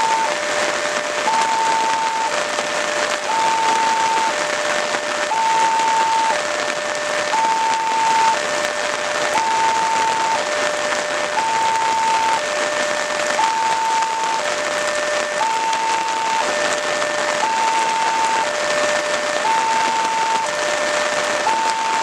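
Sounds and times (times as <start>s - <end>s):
heavy rain hissing: 0.0s - 22.0s
level crossing alarm tones: 0.0s - 22.0s.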